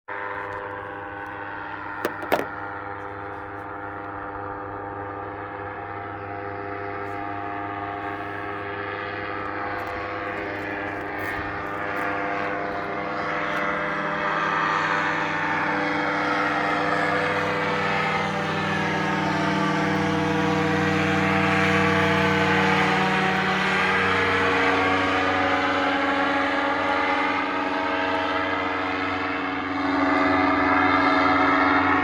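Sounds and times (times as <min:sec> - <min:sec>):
paramotor engine buzzing: 0:00.1 - 0:32.0.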